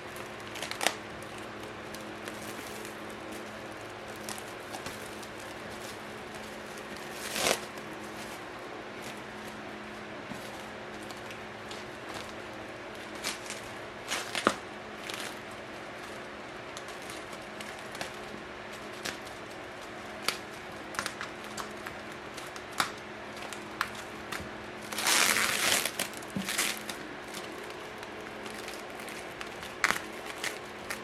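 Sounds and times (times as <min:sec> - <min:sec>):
packaging crinkling and rustling: 0:00.0 - 0:31.0.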